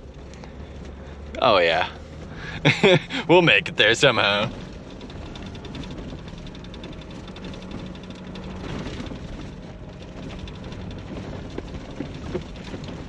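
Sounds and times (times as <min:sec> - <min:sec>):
car engine hum: 0:00.0 - 0:13.0
road and tyre noise: 0:00.0 - 0:13.0.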